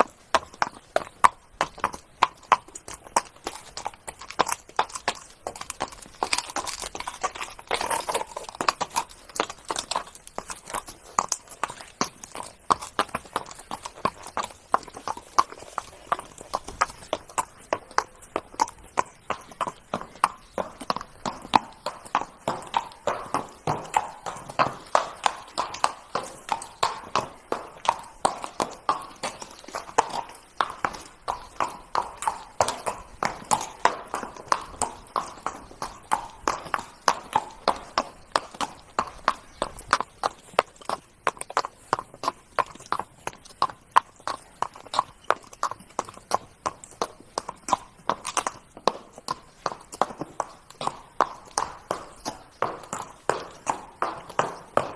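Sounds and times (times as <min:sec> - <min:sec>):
horse hooves trotting: 0:00.0 - 0:54.9.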